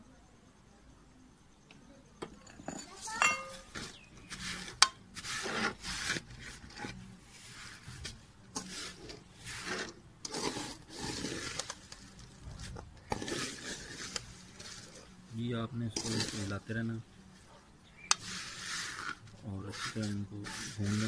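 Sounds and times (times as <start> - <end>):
ladle scraping a metal pot: 2.4 - 15.3, 15.9 - 16.8, 18.0 - 21.0.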